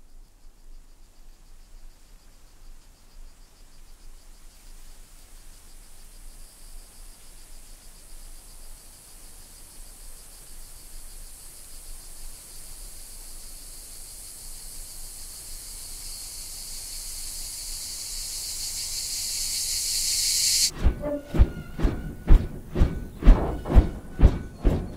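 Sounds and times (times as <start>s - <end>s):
insects chirring: 0.1s - 20.8s.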